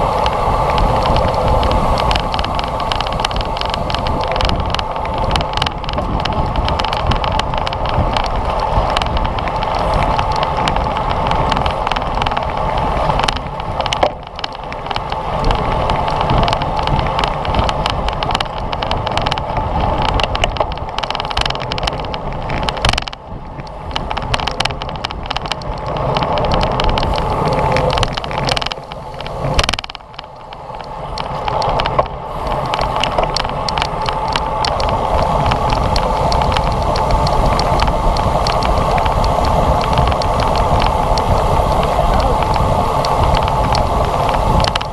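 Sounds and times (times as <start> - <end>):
road noise: 0.0 - 44.9
wind rushing: 0.0 - 44.9.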